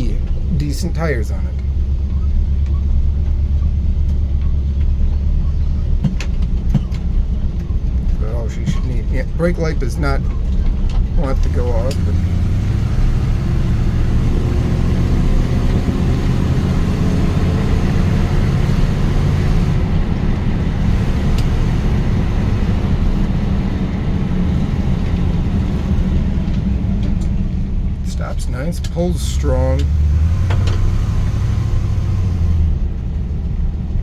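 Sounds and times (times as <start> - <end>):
road noise: 0.0 - 34.0
truck engine rumbling: 0.0 - 34.0.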